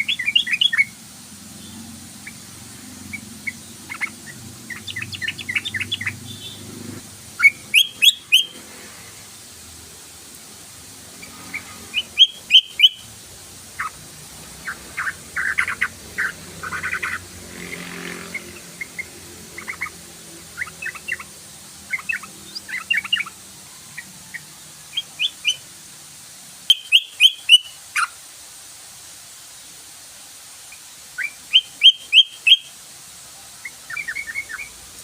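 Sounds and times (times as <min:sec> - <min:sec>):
bulbul chattering song: 0:00.0 - 0:08.7, 0:10.7 - 0:25.7, 0:26.6 - 0:28.2, 0:30.6 - 0:32.8, 0:33.5 - 0:34.8.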